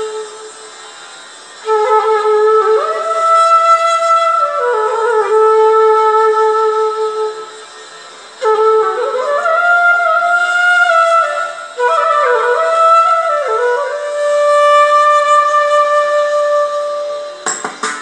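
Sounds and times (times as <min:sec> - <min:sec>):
bamboo flute melody: 0:00.0 - 0:18.0.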